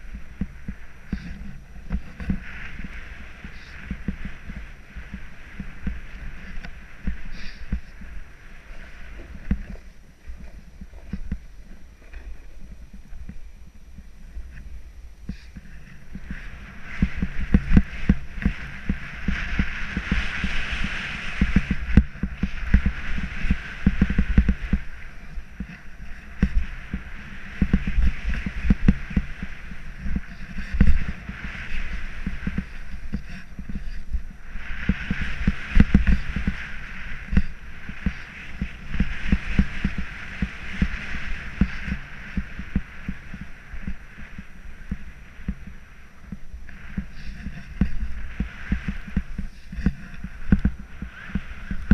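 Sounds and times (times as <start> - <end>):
snowboard scraping through snow: 0.0 - 13.0, 15.3 - 51.9
low thumps and rumble: 0.0 - 51.9.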